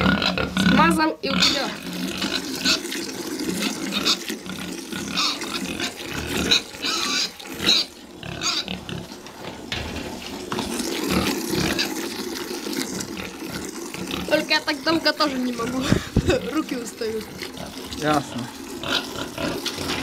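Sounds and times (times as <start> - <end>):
pigs grunting: 0.0 - 20.0
milk squirting into a pail: 1.7 - 20.0.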